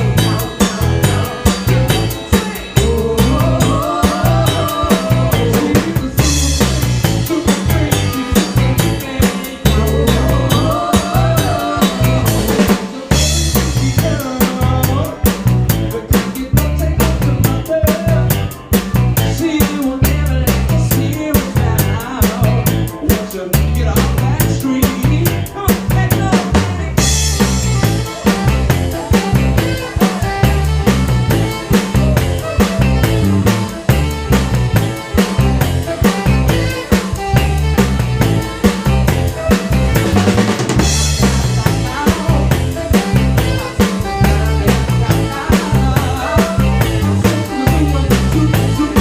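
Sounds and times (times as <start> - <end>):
live funk band playing: 0.0 - 49.0.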